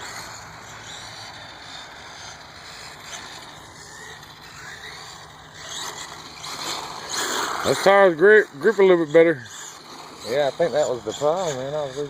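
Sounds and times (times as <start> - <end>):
rc car motor whine: 0.0 - 12.0
steady background noise: 0.0 - 12.0.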